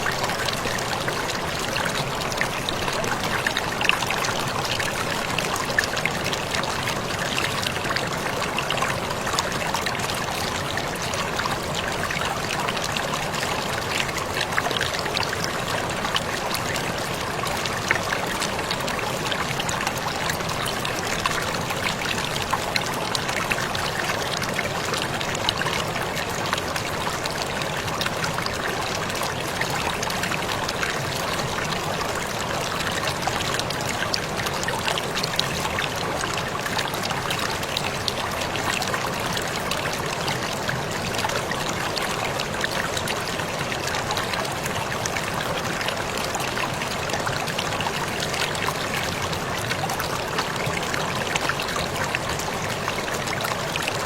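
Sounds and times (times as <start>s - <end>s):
water splashes and drips: 0.0s - 54.0s.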